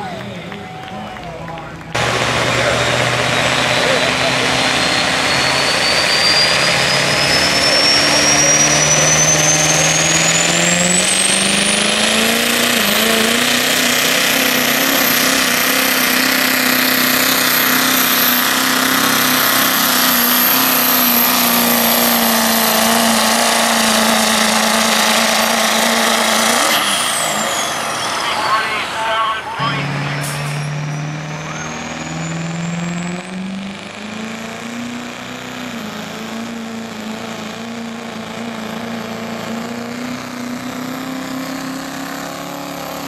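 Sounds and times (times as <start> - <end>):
diesel truck engine full throttle: 0.0 - 43.0
turbocharger whistle: 2.0 - 39.9.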